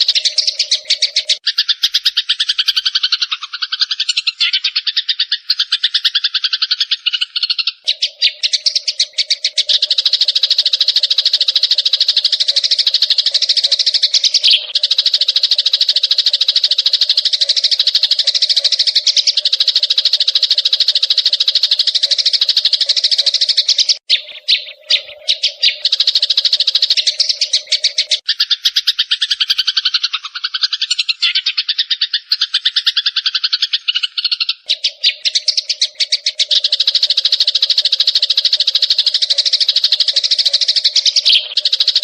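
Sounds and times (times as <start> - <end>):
sparrows chirping: 0.0 - 42.0.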